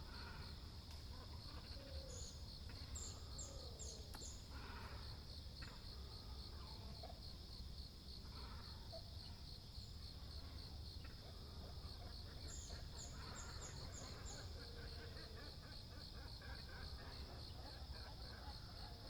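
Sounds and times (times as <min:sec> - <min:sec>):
faint bird calls: 0:00.0 - 0:07.2, 0:08.2 - 0:19.0
insect chirping: 0:00.0 - 0:19.0.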